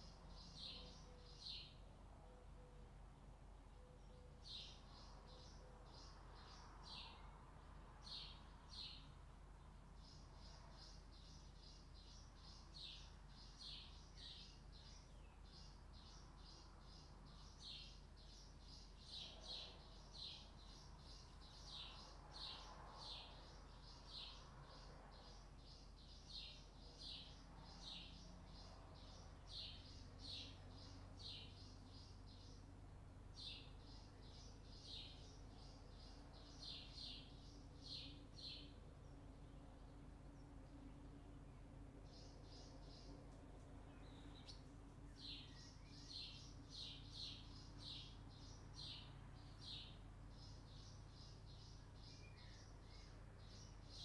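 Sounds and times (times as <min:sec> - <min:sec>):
bird chirping: 0:00.0 - 0:03.0, 0:03.6 - 0:07.4, 0:08.0 - 0:54.0
low steady hum: 0:00.0 - 0:54.0.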